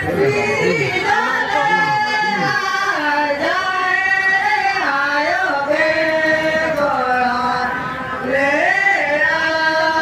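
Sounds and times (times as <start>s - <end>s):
group singing in unison: 0.0s - 10.0s.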